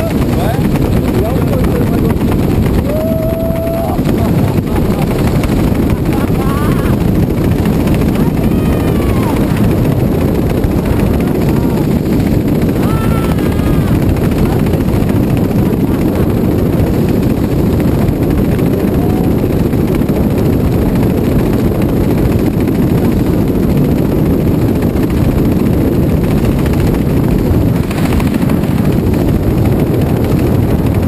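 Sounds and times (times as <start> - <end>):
heavy wind buffeting microphone: 0.0 - 31.0.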